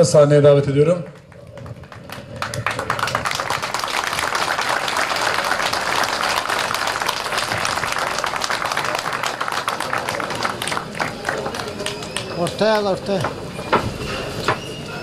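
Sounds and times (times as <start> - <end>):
crowd applauding: 1.0 - 13.4.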